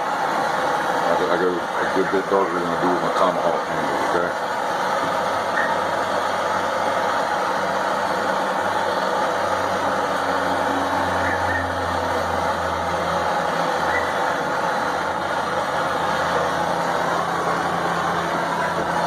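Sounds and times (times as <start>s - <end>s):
machine running with low hum: 0.0s - 19.0s.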